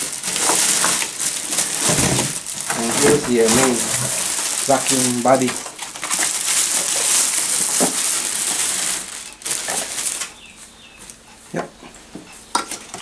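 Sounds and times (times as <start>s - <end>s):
plastic bag rustling and crinkling: 0.0s - 11.2s.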